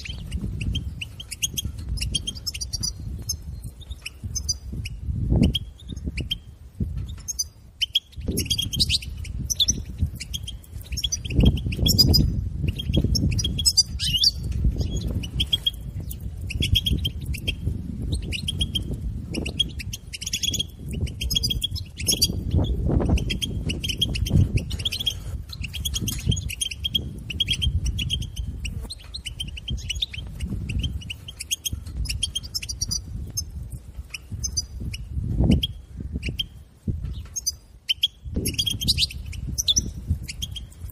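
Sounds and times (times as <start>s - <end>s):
finch twittering: 0.0s - 40.9s.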